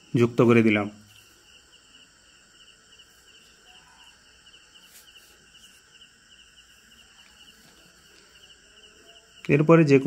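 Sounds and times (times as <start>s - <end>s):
faint insect chirping: 0.0s - 10.0s.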